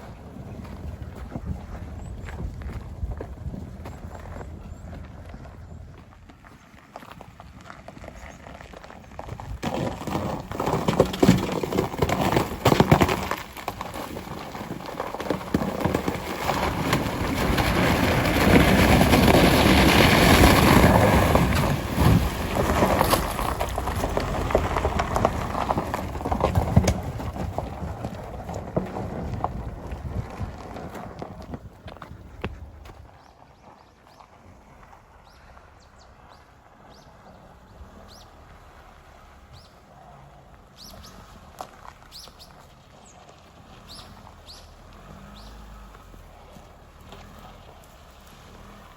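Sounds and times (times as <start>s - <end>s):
tyres crunching through ice: 0.0s - 48.9s.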